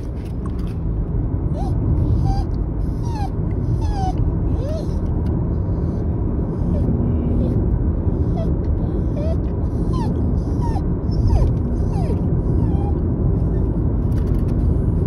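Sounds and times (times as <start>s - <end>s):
car road rumble: 0.0s - 15.0s
dog whining: 1.5s - 5.2s, 6.6s - 15.0s.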